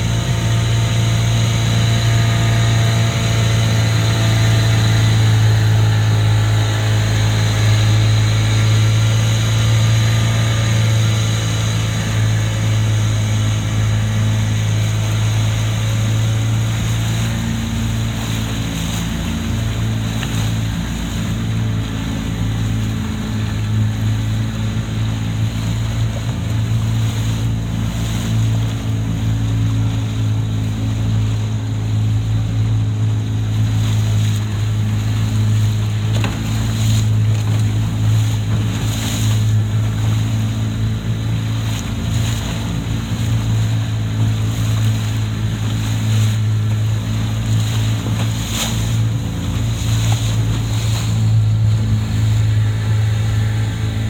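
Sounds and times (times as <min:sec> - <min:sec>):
boat engine droning: 0:00.0 - 0:54.0
water rushing past hull: 0:00.0 - 0:54.0.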